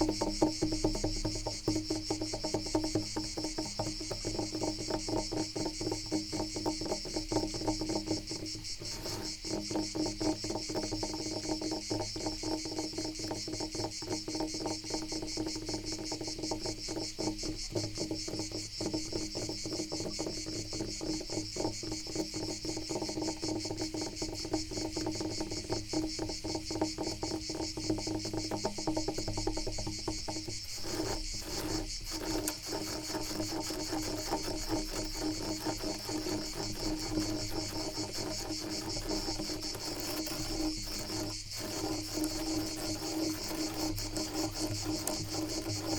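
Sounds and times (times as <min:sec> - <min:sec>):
high-pitched insect trill: 0:00.0 - 0:45.9
scratching on wood: 0:06.3 - 0:13.0, 0:13.8 - 0:45.9.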